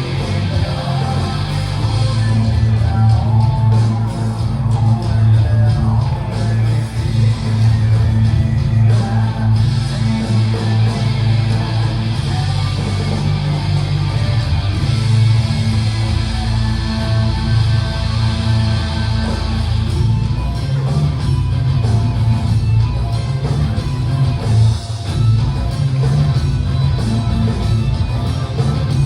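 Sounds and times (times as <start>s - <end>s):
instrumental guitar rock music: 0.0s - 29.0s.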